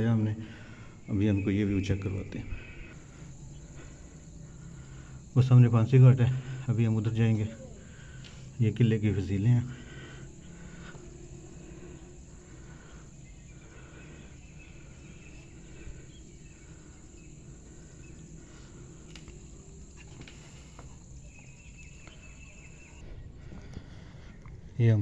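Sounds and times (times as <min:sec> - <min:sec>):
insects chirping: 0:00.0 - 0:25.0
low background hum: 0:00.0 - 0:25.0.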